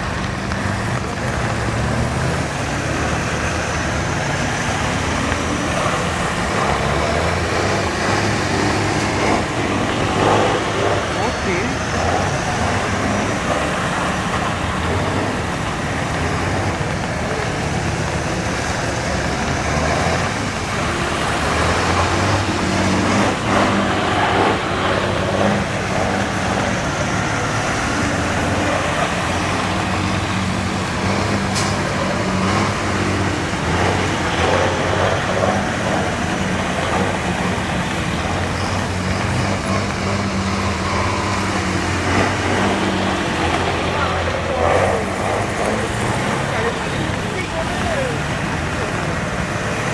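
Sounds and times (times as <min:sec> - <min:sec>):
truck engine droning: 0:00.0 - 0:49.9.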